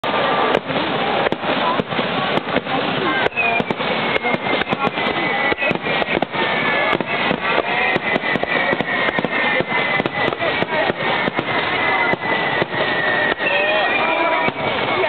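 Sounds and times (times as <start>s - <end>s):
fireworks bangs and crackles: 0.0s - 15.0s
fireworks whistles falling in pitch: 0.0s - 15.0s.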